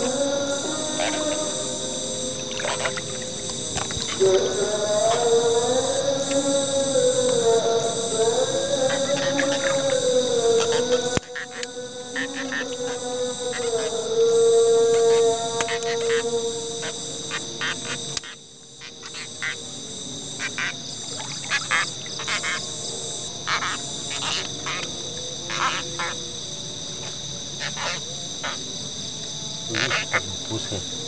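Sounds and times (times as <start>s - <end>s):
frogs calling: 0.0s - 31.0s
insects buzzing: 0.0s - 31.0s.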